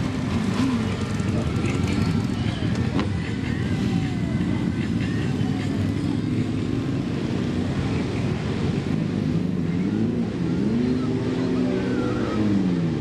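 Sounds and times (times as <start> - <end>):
motorcycle engines pulling away: 0.0 - 13.0.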